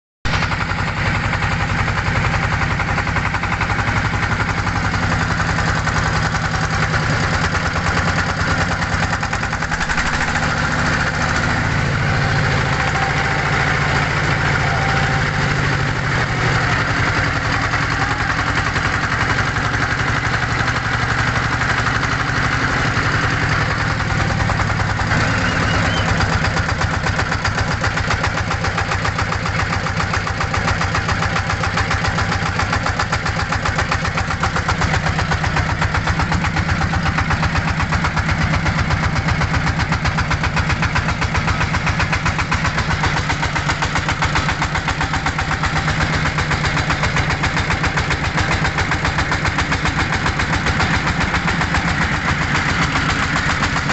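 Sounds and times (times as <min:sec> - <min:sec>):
boat engine running: 0:00.3 - 0:53.9.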